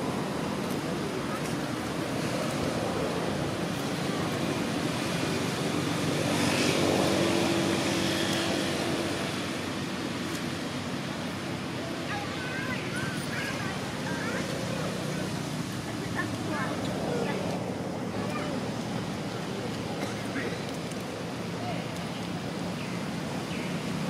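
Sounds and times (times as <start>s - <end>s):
outdoor rumble and hiss: 0.0s - 24.0s.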